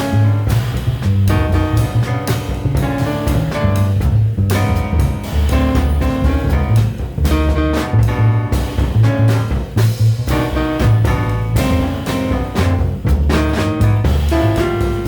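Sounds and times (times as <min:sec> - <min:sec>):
acoustic piano chords and runs: 0:00.0 - 0:15.0
drum kit with busy cymbals: 0:00.0 - 0:15.0
walking double bass: 0:00.0 - 0:15.0.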